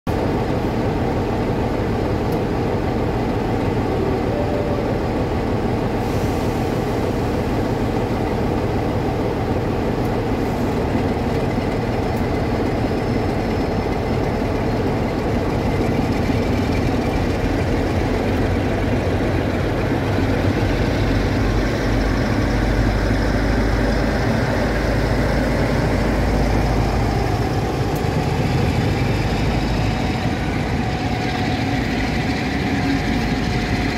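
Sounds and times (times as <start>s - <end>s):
diesel locomotive engines rumbling: 0.1s - 33.9s.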